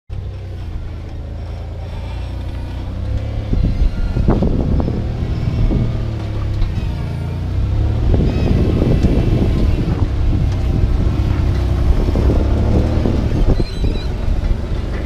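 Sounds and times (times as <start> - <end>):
truck engine at low revs: 0.1 - 15.0.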